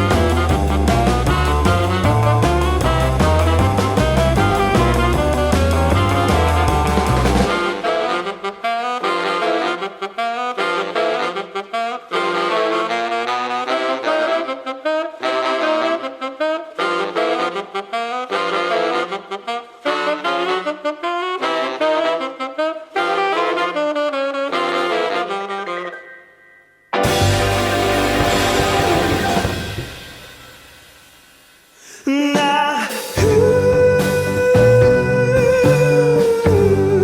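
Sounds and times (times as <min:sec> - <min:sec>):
instrumental lead melody: 0:00.0 - 0:31.1.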